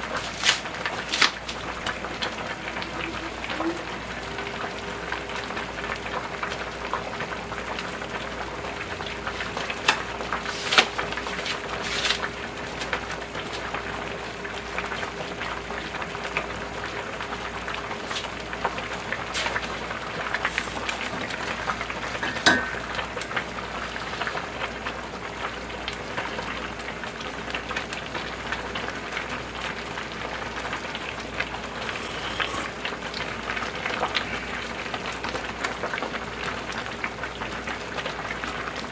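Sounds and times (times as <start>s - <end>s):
soup bubbling at a boil: 0.0s - 38.9s.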